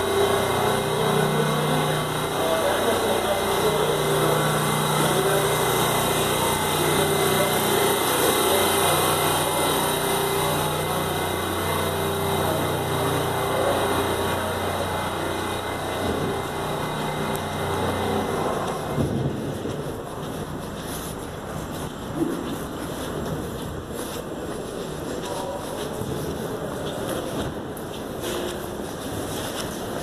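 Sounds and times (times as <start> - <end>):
subway train wheel and motor noise: 0.0 - 30.0.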